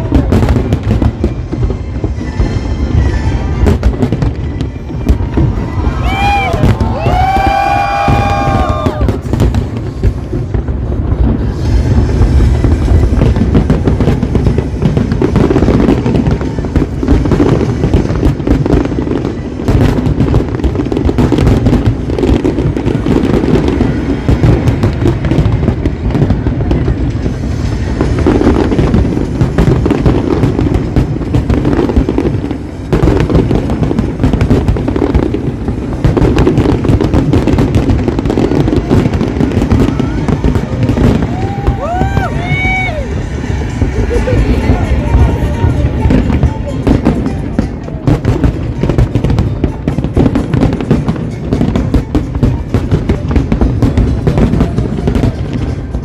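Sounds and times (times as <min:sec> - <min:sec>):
fireworks booms and crackles: 0:00.0 - 0:56.0.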